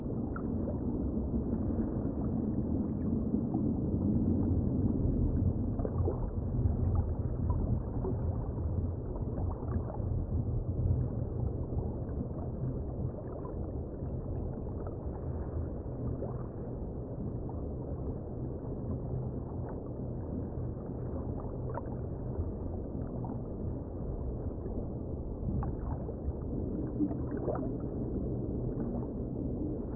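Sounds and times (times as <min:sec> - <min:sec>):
underwater rumble and wash: 0:00.0 - 0:29.9.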